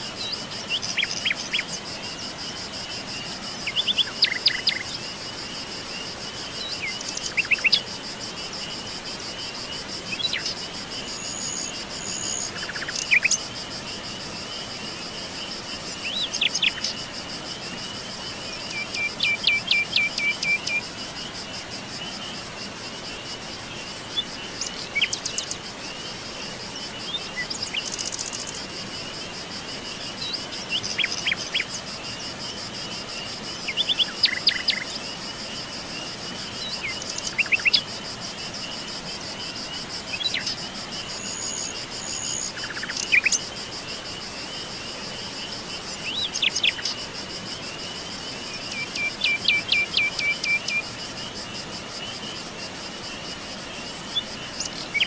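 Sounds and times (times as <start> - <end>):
insects trilling: 0.0 - 55.0
steady background hiss: 0.0 - 55.0.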